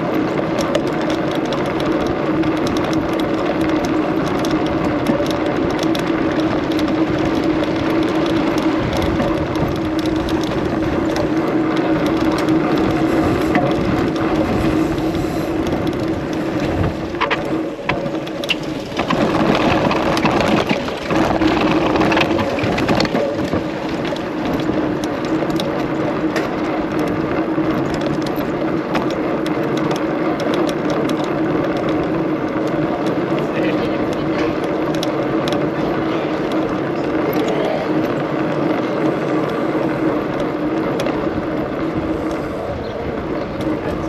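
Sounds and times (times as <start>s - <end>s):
bike clattering down stone stairs: 0.0s - 42.6s
bike tyre humming on cobblestones: 0.0s - 44.0s.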